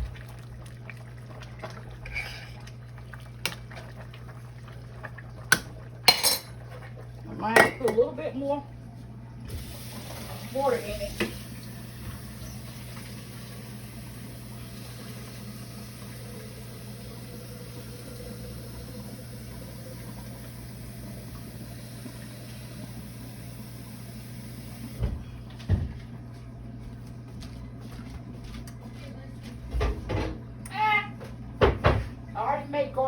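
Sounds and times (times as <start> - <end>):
kitchen background hum: 0.0 - 33.0.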